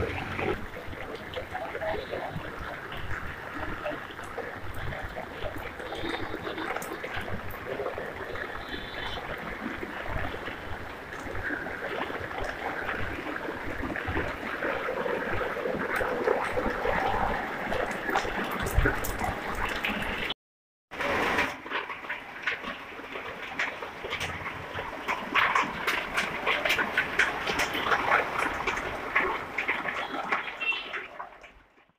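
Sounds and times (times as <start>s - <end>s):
rain on wet pavement: 0.0s - 20.3s, 20.9s - 31.9s
running water: 0.0s - 31.9s.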